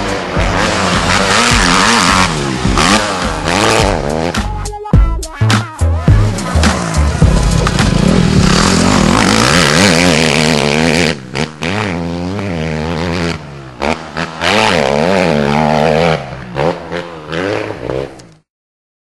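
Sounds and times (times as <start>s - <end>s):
motocross bike engine revving: 0.0s - 4.7s, 5.9s - 18.5s.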